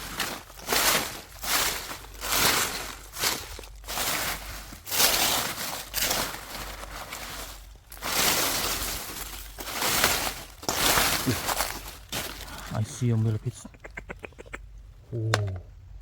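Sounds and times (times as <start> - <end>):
dry leaves crunching and rustling: 0.0 - 13.4.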